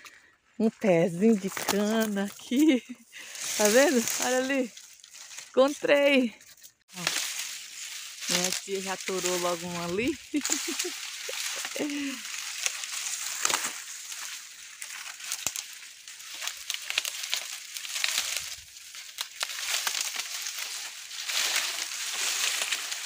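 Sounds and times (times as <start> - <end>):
dry leaves rustling and crackling: 0.6 - 23.0.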